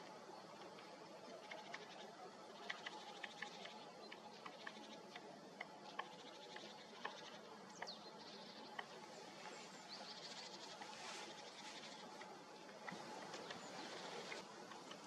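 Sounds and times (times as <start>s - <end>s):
woodpecker pecking ticks: 0.0s - 15.0s.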